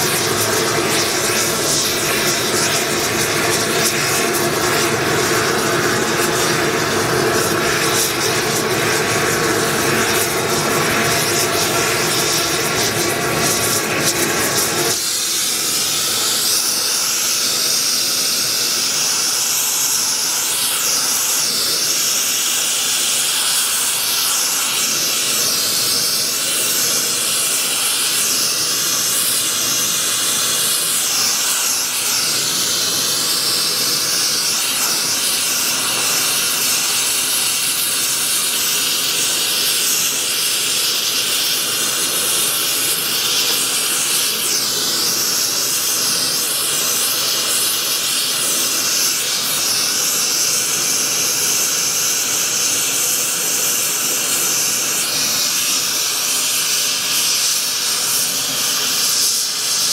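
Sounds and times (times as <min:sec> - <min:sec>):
torch flame roaring: 0:00.0 - 0:22.4, 0:23.1 - 0:59.9.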